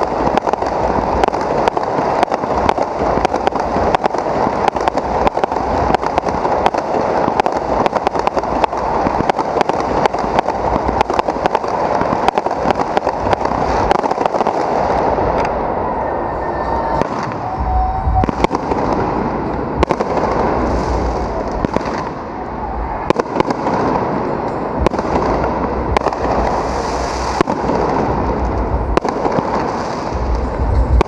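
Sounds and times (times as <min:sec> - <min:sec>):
fireworks popping and banging: 0:00.0 - 0:15.8, 0:16.6 - 0:31.0.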